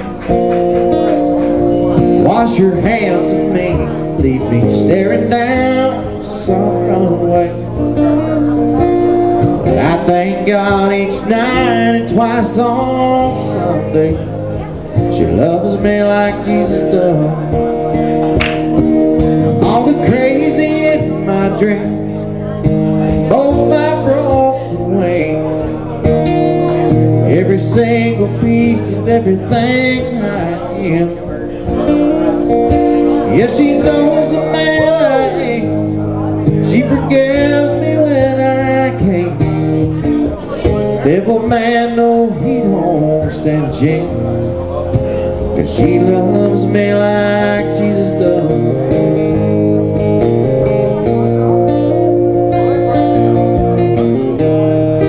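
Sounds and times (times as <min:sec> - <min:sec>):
man singing: 0:00.0 - 0:49.6
acoustic guitar chords: 0:00.0 - 0:55.0.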